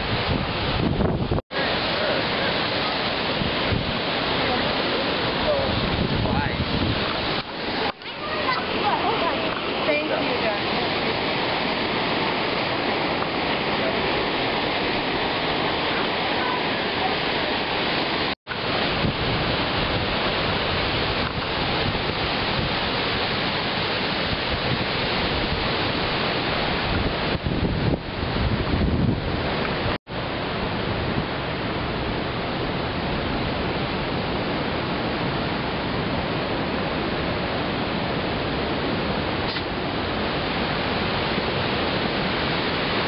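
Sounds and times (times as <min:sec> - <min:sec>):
surf breaking on a beach: 0:00.0 - 0:43.0
wind buffeting the microphone: 0:00.0 - 0:43.0.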